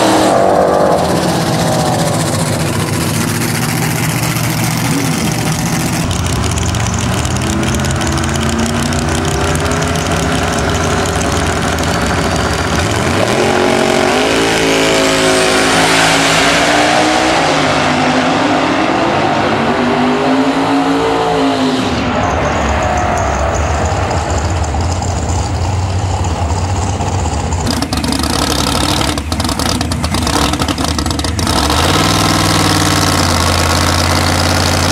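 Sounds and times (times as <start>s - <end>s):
drag racing car engines: 0.0s - 34.9s.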